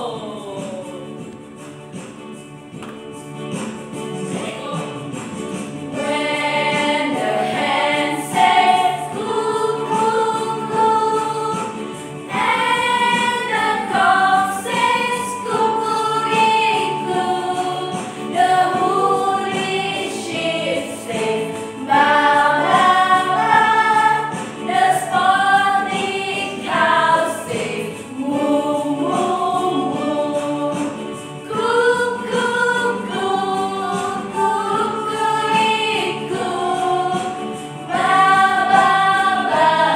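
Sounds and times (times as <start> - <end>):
women singing together: 0.0 - 1.1, 4.3 - 39.9
keyboard accompaniment: 0.0 - 39.9.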